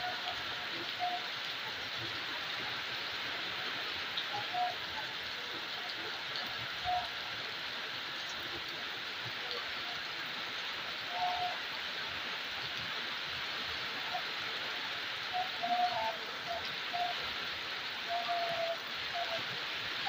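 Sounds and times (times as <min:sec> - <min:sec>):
heavy rain on roofs and street: 0:00.0 - 0:20.0.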